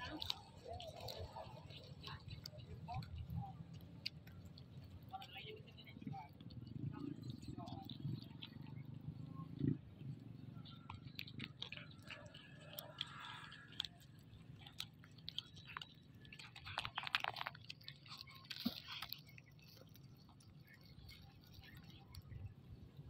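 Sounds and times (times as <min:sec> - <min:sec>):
kitten chewing food: 0:00.0 - 0:23.0.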